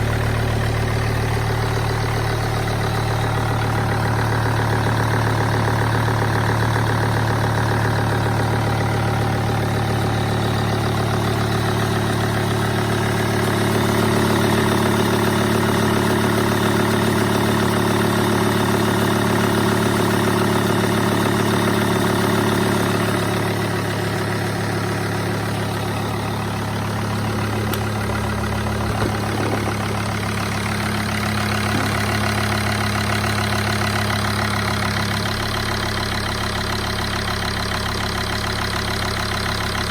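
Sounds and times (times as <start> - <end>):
diesel engine idling with knock: 0.0 - 39.9.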